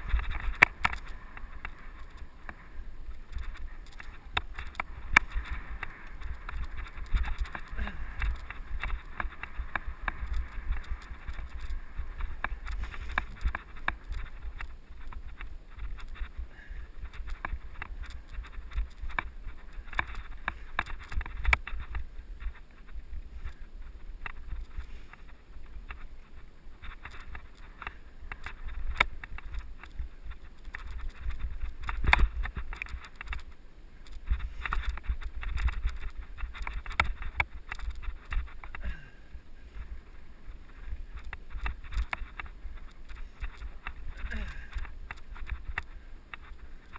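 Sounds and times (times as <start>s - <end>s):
mountain bike rattling and clicking: 0.0s - 46.9s
wind buffeting camera: 0.0s - 46.9s.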